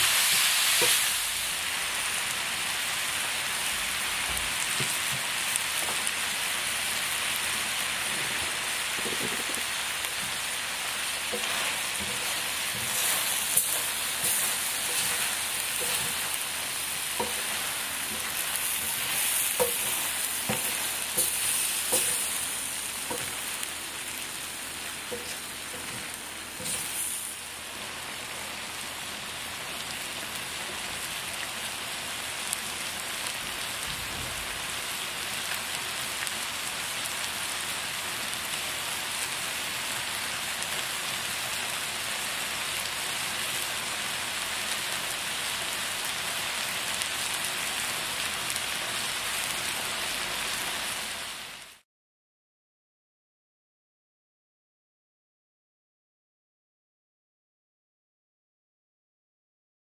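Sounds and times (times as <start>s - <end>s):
food sizzling in a frying pan: 0.0s - 51.8s.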